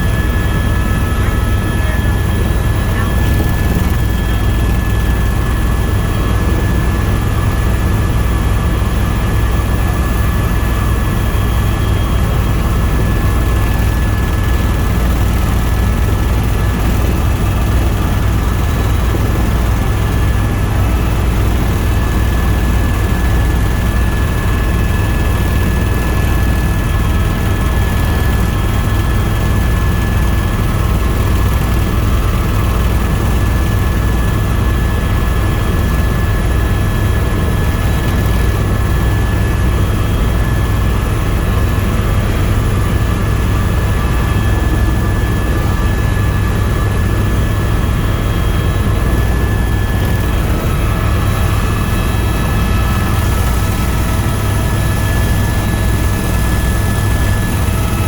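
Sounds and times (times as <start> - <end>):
helicopter rotor drone: 0.0 - 58.0
high turbine whine: 0.0 - 58.0.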